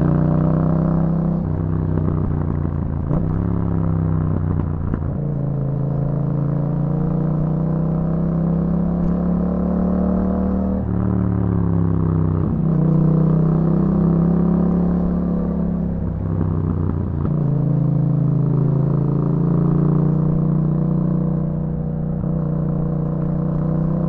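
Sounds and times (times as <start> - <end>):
motorcycle engine while riding: 0.0 - 24.0.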